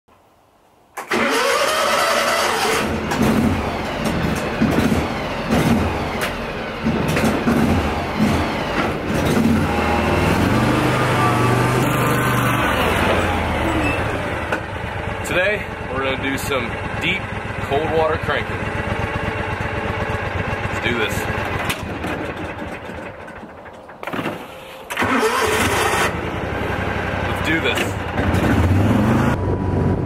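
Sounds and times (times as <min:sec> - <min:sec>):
utility vehicle engine running: 0:01.1 - 0:30.0.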